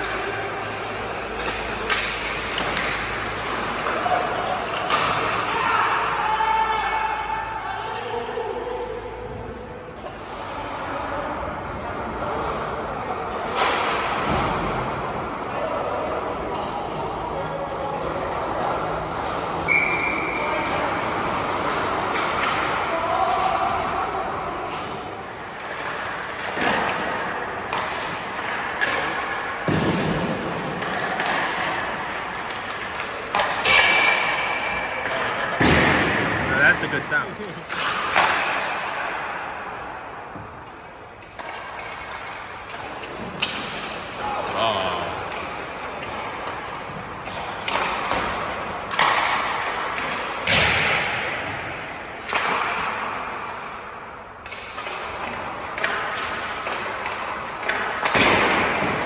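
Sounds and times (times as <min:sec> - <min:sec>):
pucks hitting sticks and boards: 0:00.0 - 0:59.0.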